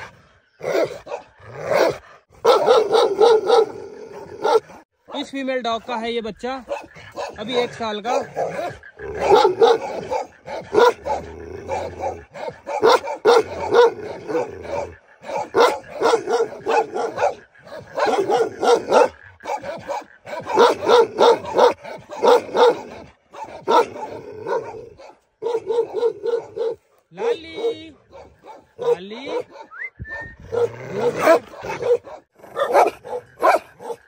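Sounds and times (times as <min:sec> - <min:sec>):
guard dogs barking: 0:00.0 - 0:04.9, 0:05.9 - 0:34.0.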